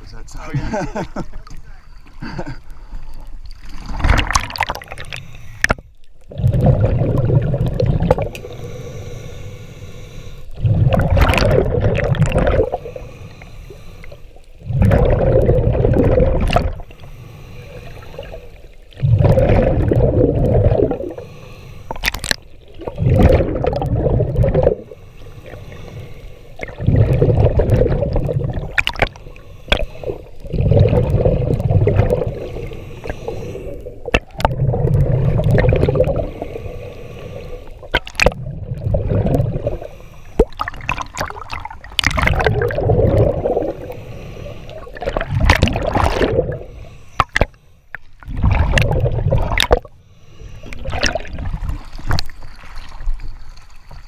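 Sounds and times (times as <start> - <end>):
exhaled bubbles gurgling: 0.0 - 9.2, 10.4 - 54.0
diver inhaling through regulator: 4.6 - 6.8, 8.0 - 38.3, 38.9 - 52.2.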